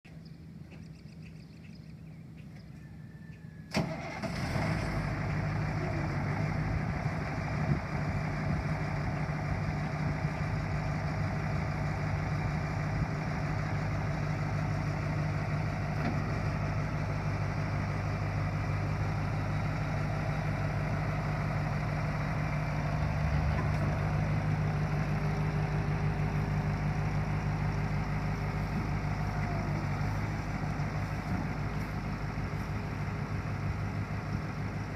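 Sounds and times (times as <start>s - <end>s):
truck engine starting and idling: 3.0s - 34.9s.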